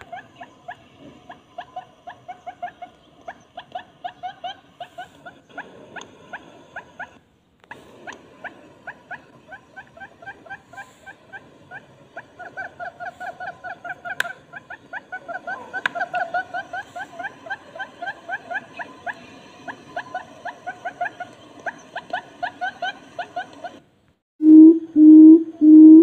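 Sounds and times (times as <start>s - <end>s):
buttonquail calls: 0.0s - 7.2s, 8.0s - 23.8s.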